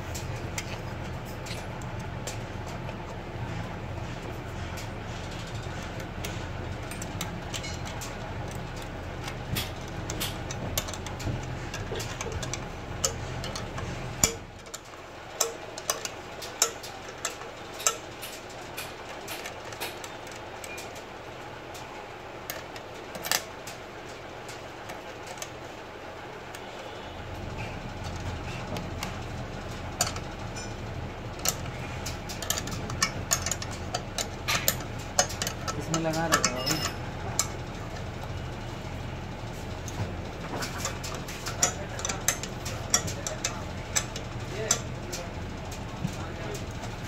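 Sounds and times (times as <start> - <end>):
spanner clicking on nuts: 4.7 - 21.1, 21.7 - 25.6, 28.0 - 38.2, 39.8 - 46.9.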